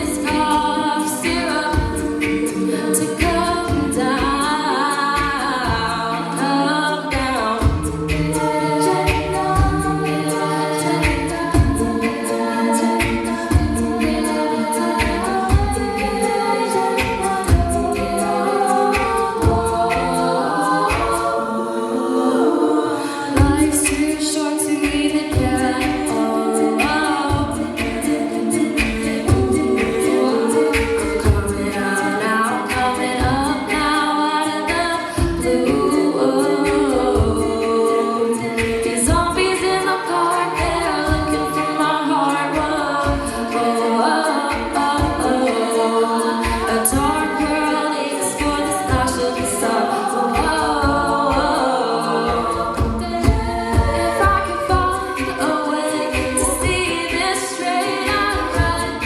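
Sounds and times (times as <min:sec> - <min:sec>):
a cappella group singing: 0:00.0 - 0:59.0
vocal percussion thumps: 0:00.0 - 0:59.0.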